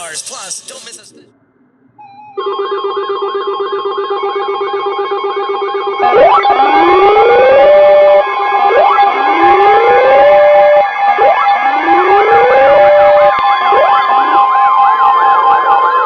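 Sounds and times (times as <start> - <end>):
rising siren-like sweeps: 2.0 - 16.0.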